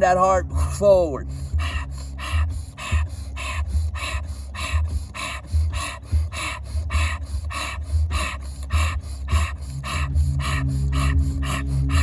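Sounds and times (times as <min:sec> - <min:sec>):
fast forceful breathing: 0:00.0 - 0:12.0
low background music: 0:00.0 - 0:12.0.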